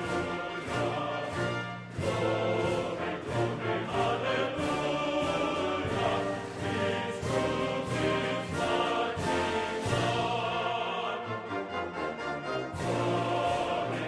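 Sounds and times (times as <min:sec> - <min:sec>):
choir singing with orchestra: 0:00.0 - 0:14.0.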